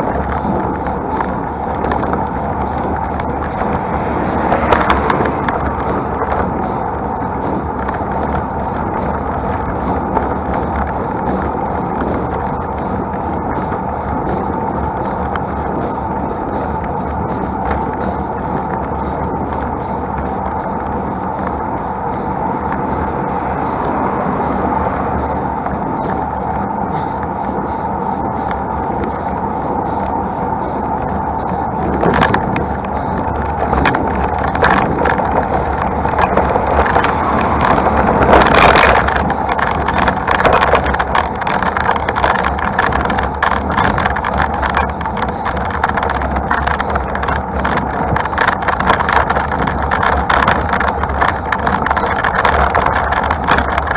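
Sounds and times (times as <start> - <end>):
bicycle riding noise: 0.0 - 53.9
passing motor traffic: 0.0 - 53.9
rattling small clicks: 0.0 - 53.9.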